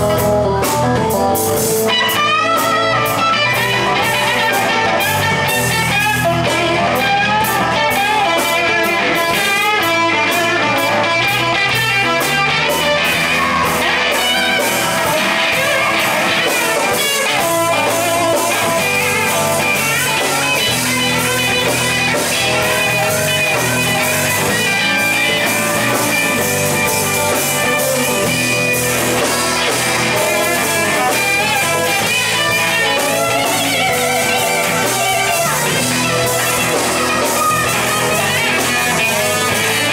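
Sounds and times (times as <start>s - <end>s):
drums: 0.0s - 39.9s
electric guitar: 0.0s - 39.9s.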